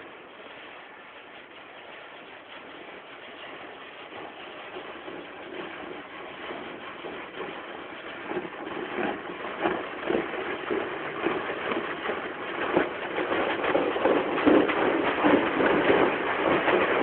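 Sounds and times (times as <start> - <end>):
water spraying on car: 0.0 - 17.0.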